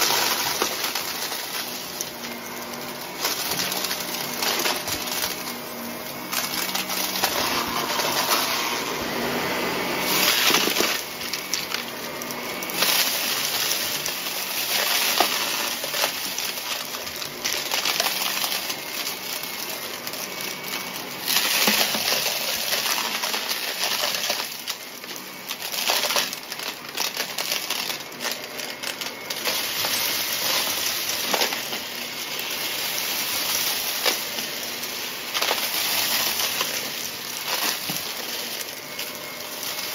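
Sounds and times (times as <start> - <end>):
debris rattling into vacuum: 0.0 - 39.9
upright vacuum motor running: 0.0 - 39.9.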